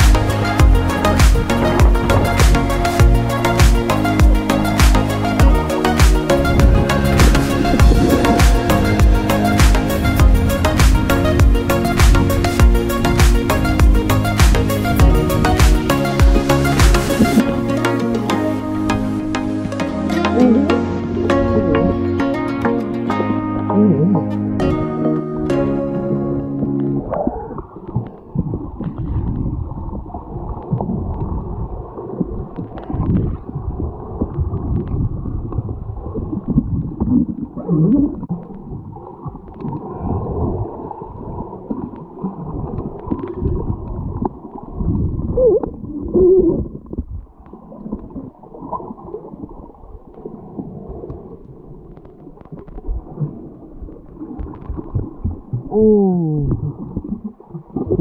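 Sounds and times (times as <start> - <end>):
muffled underwater water rumble: 0.0 - 58.0.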